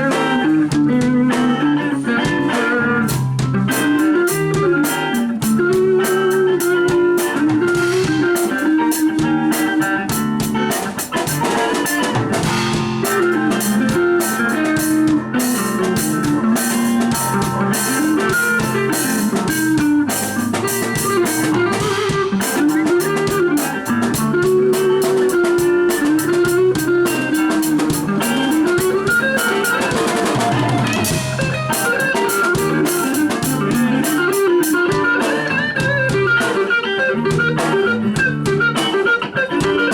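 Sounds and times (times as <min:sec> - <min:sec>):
drum kit beat: 0:00.0 - 0:39.9
guitar lead line: 0:00.0 - 0:39.9.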